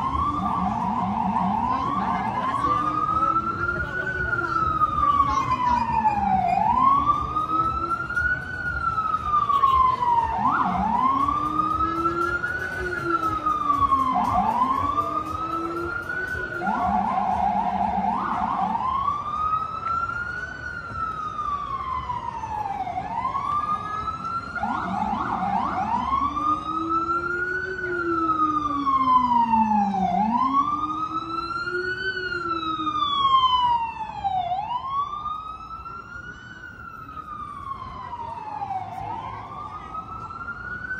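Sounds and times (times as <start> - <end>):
emergency vehicle siren: 0.0 - 40.9
street traffic: 0.0 - 40.9.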